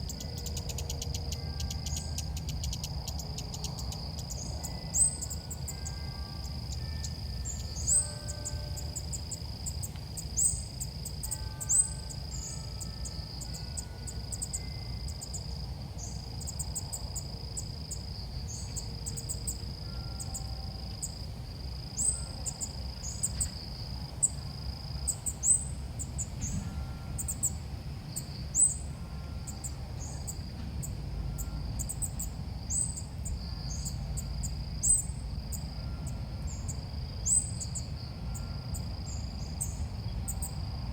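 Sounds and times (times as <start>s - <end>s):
constant low hum: 0.0s - 40.9s.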